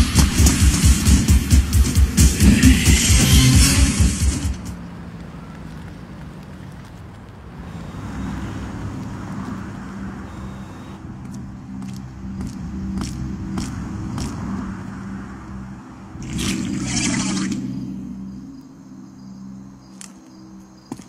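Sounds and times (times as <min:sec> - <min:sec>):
car engine hum: 0:00.0 - 0:21.0
road noise: 0:00.0 - 0:21.0.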